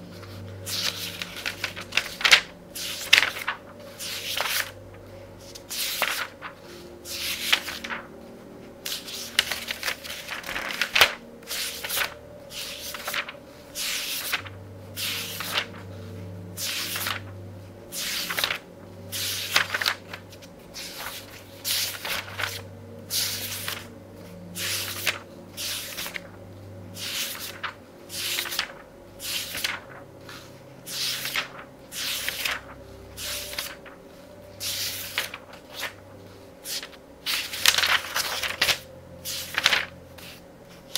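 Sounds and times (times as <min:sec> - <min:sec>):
book pages being turned: 0:00.0 - 0:40.9.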